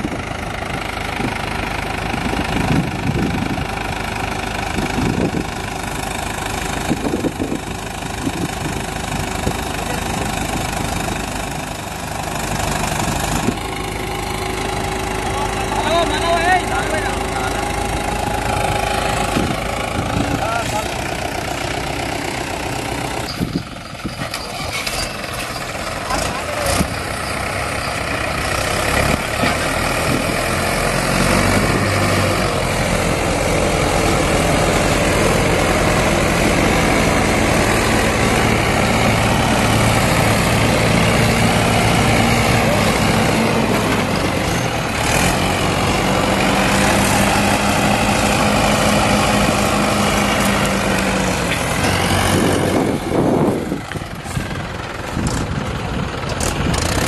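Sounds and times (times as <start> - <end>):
diesel tractor engines under load: 0.0 - 57.0.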